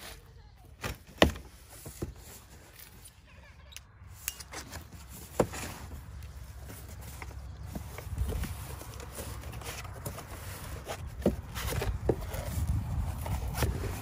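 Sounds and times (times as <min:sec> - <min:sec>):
cardboard rustling and scraping: 0:00.0 - 0:03.3, 0:04.4 - 0:14.0.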